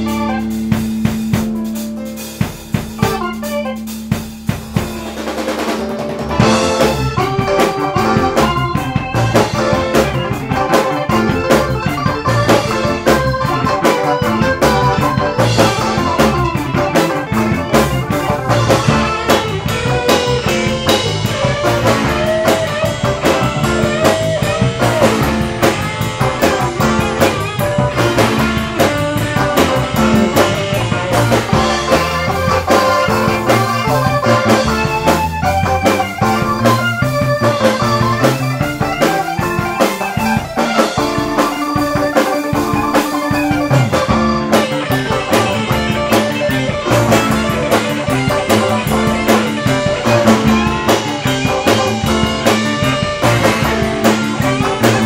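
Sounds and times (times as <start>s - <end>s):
drum kit: 0.0s - 55.0s
electric guitar: 0.0s - 55.0s
keyboards: 0.0s - 55.0s.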